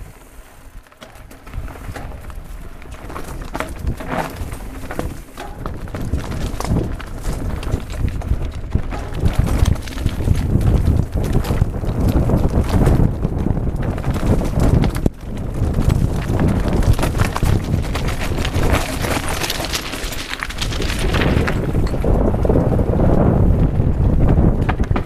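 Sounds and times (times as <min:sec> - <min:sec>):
bike rattling: 0:00.0 - 0:25.0
tyres crunching over stones: 0:00.1 - 0:22.7
wind buffeting microphone: 0:01.2 - 0:25.0.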